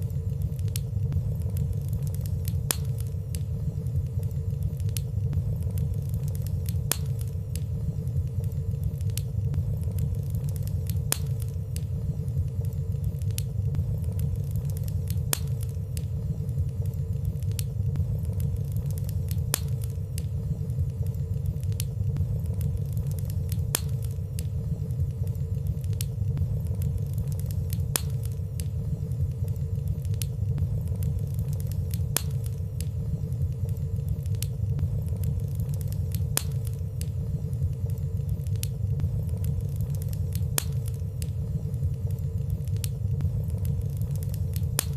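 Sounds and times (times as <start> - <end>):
fireplace fire crackling softly: 0.0 - 44.9.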